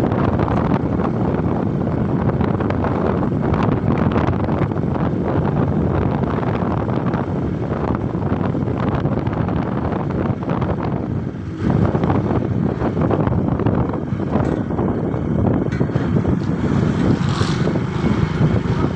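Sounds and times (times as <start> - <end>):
motorcycle engine rumble: 0.0 - 18.9
road noise: 0.0 - 18.9
wind buffeting microphone: 0.0 - 18.9.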